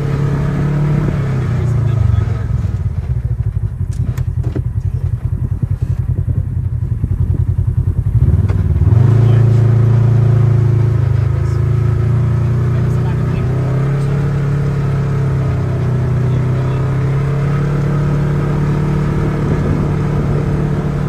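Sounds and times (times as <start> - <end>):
utility vehicle engine: 0.0 - 21.0.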